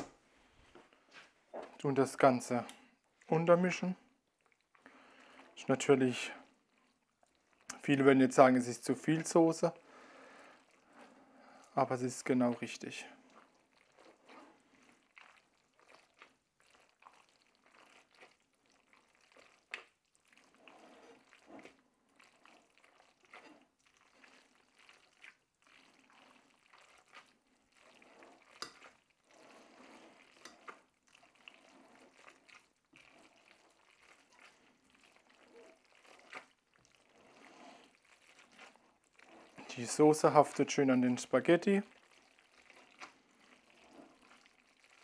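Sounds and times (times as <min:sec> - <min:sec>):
wet squelching of pasta in sauce: 0:00.0 - 0:45.0.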